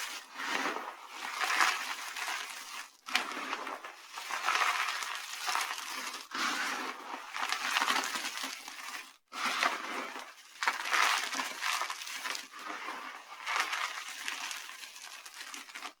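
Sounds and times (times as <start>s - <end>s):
dry soap crunching: 0.0s - 16.0s.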